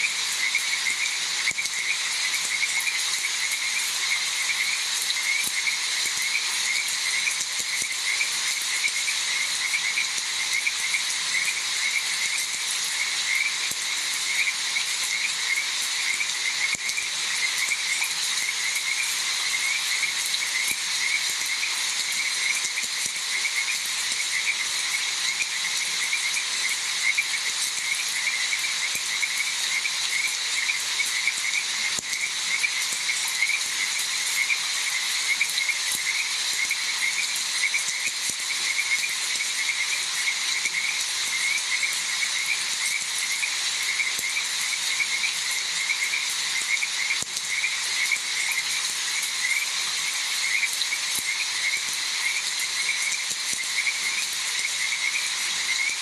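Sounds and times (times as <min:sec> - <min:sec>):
frogs croaking: 0:00.0 - 0:56.0
steady rain hiss: 0:00.0 - 0:56.0.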